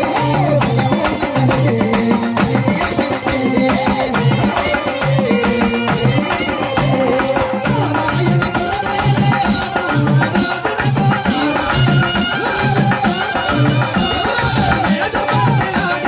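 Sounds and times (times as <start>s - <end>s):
devotional folk music: 0.0s - 16.0s
hand drum rhythm: 0.0s - 16.0s.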